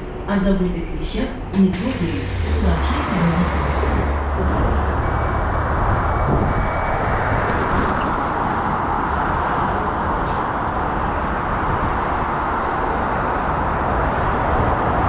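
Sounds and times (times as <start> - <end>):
traffic hum and rumble: 0.0 - 15.0.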